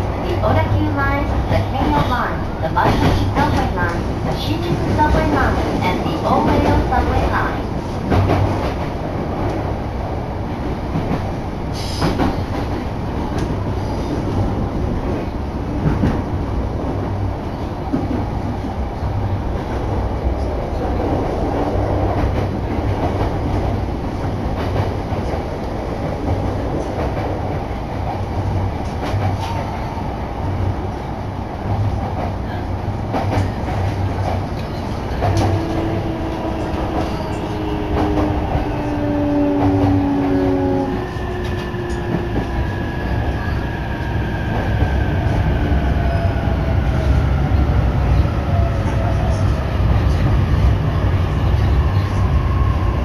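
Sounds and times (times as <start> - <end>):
train running low rumble: 0.0 - 53.0.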